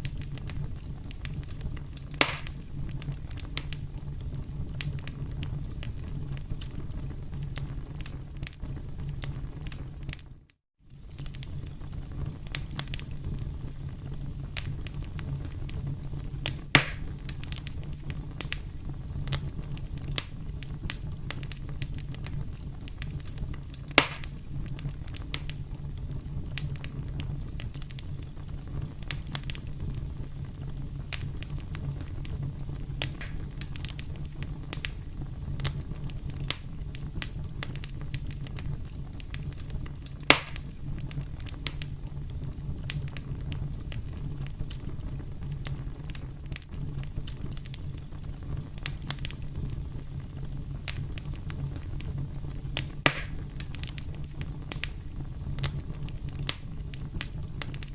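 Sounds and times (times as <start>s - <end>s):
campfire crackling: 0.0s - 57.9s
loud fire pops: 0.0s - 57.9s.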